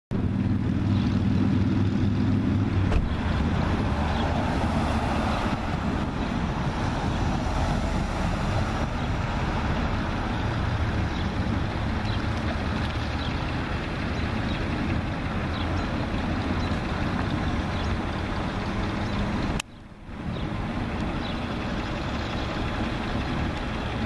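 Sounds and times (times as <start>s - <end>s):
broad rushing noise: 0.1s - 24.0s
engine humming: 0.1s - 24.0s.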